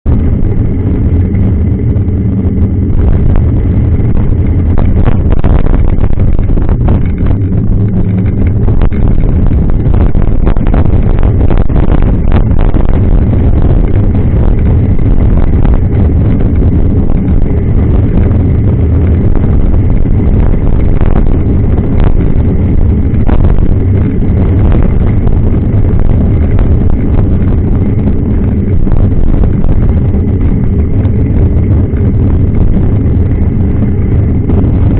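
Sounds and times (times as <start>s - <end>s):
wind and riding rumble: 0.0s - 34.9s.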